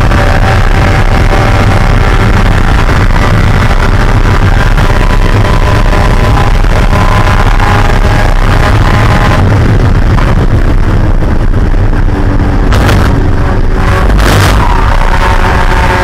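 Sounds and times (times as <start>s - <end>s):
race car engine running loud: 0.0s - 16.0s
road noise: 0.0s - 16.0s.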